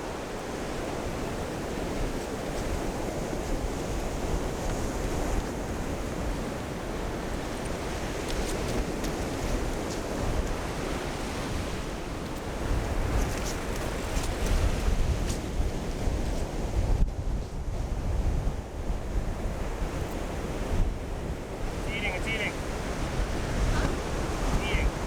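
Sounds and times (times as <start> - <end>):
ocean surf washing onto beach: 0.0 - 16.8, 17.6 - 25.0
wind buffeting microphone: 0.0 - 25.0.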